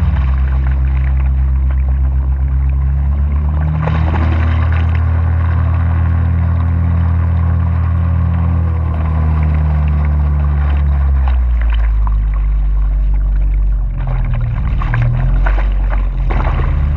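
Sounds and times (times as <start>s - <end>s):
outboard motor running: 0.0s - 16.9s
water rushing past hull: 0.0s - 16.9s.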